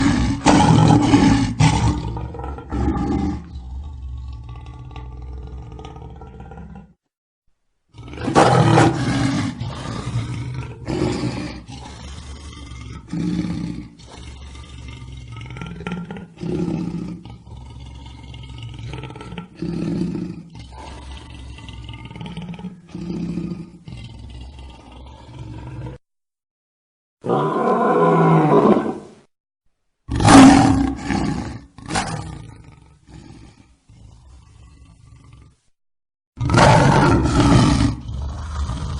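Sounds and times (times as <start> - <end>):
lion roaring: 0.0 - 7.0, 7.9 - 26.0, 27.2 - 29.1, 30.1 - 35.6, 36.4 - 38.9.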